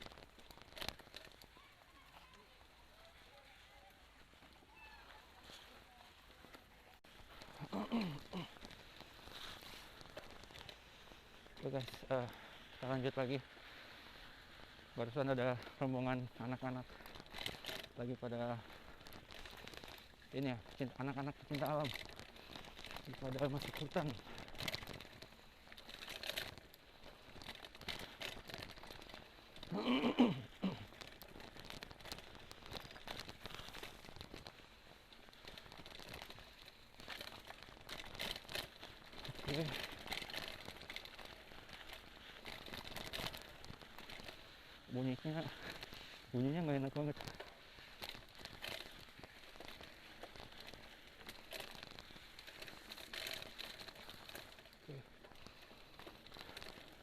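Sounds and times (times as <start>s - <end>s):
bike rattling clicks: 0.0s - 1.6s, 6.5s - 57.0s
tyres crunching over soil and twigs: 0.0s - 57.0s.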